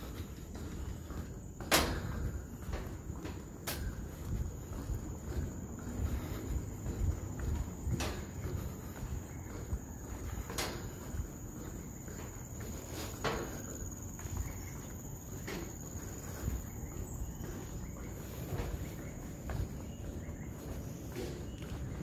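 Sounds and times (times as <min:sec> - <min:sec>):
footsteps on wooden walkway: 0:00.0 - 0:22.0.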